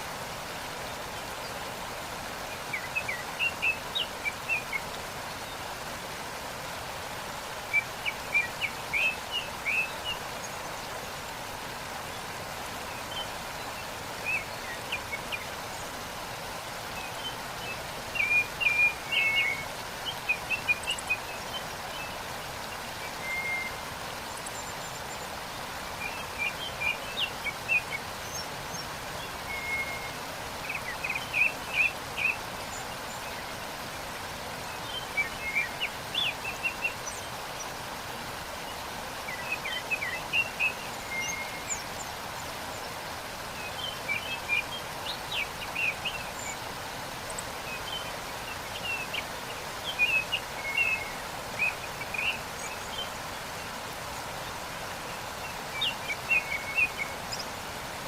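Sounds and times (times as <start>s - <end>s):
waterfall rushing: 0.0s - 58.0s
songbirds chirping: 0.1s - 58.0s.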